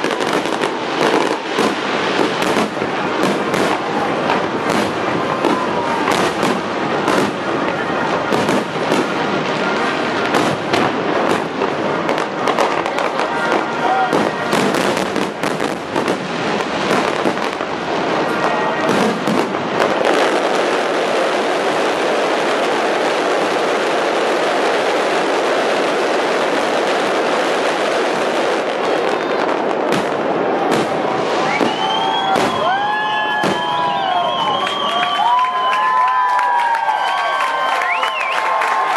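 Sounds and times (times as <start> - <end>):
crowd cheering: 0.0 - 38.9
fireworks booming and crackling: 0.0 - 38.9
loud fireworks bangs: 0.0 - 38.9.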